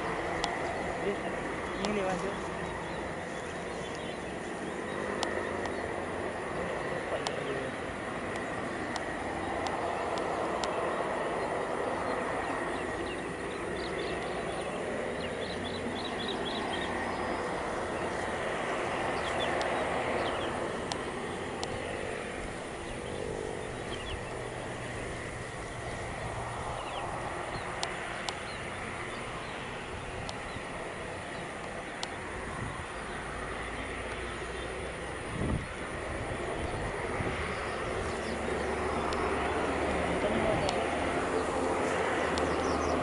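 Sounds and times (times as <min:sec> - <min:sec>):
turboprop engines whining: 0:00.0 - 0:43.0.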